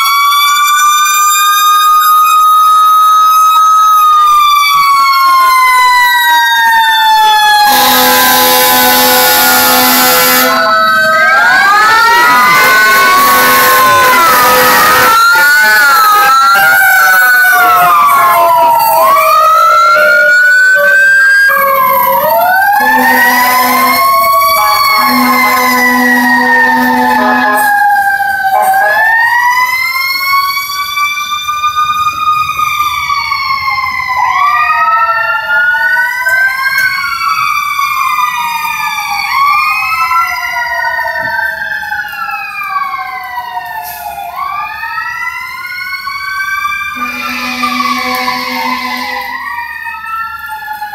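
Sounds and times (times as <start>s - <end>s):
fire engine sirens wailing: 0.0s - 50.9s
low steady siren tone: 0.0s - 50.9s.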